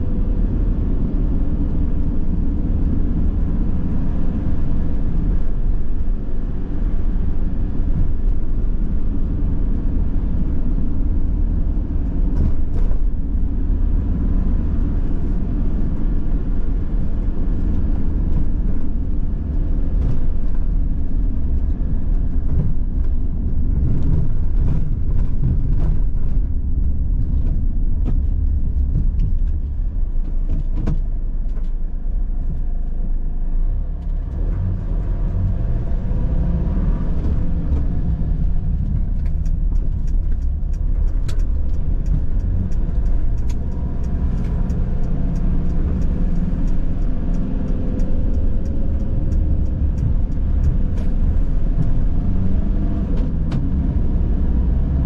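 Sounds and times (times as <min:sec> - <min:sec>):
van engine and road rumble: 0:00.0 - 0:55.0.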